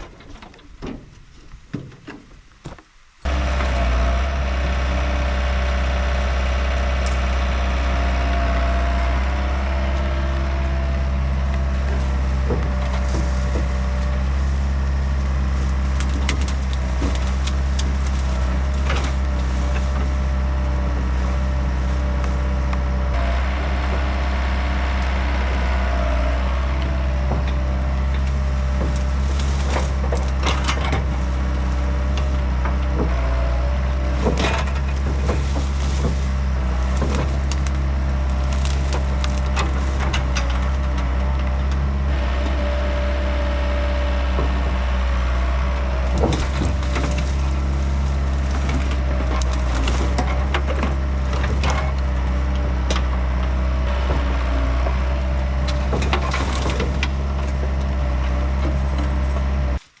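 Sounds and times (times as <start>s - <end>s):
wood cracking and splintering: 0.0s - 60.0s
excavator diesel engine running: 3.2s - 60.0s.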